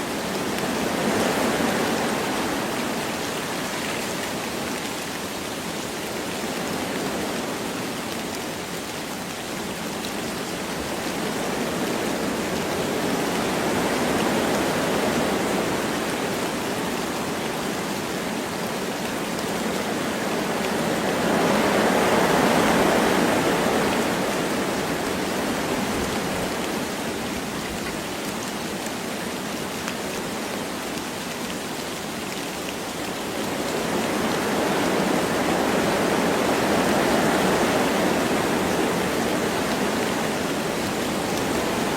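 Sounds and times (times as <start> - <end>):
light rain: 0.0 - 41.9
wind through trees: 0.0 - 41.9.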